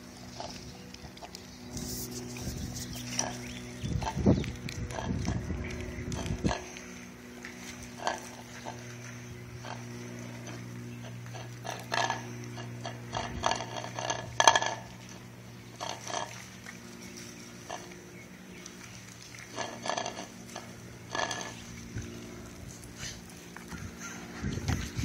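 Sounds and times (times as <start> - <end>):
dog slurping and chewing: 0.0 - 25.0
low hum: 0.0 - 25.0.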